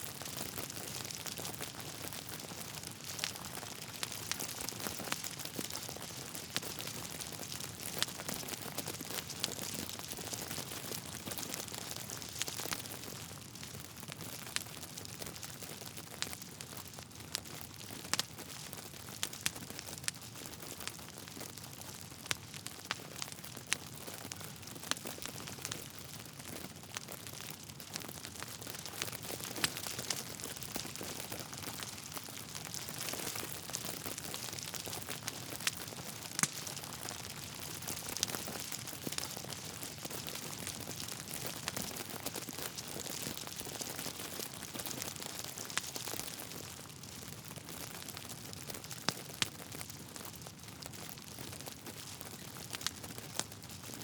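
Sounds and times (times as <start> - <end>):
fire popping: 0.1 - 53.8
burning logs crackling: 0.1 - 54.0.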